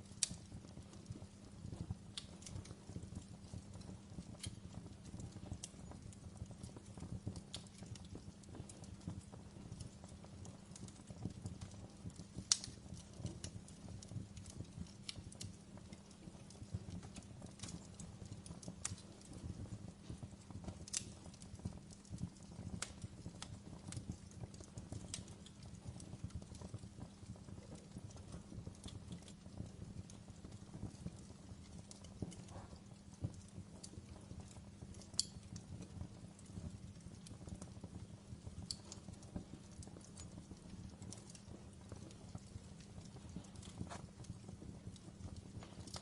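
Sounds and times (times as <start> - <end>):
fire crackling and popping: 0.0 - 46.0
low steady fire rumble: 0.0 - 46.0.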